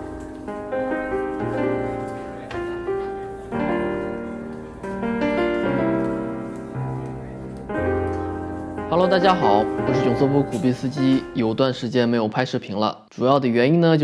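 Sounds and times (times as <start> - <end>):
low held piano bass notes: 0.0 - 11.7
piano chords: 0.0 - 12.0.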